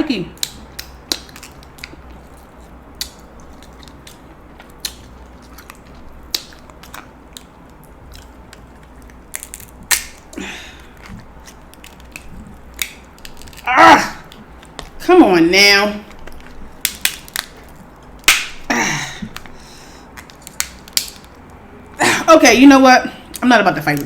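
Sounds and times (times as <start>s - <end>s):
crab shell cracking: 0.3s - 15.0s, 16.1s - 21.6s.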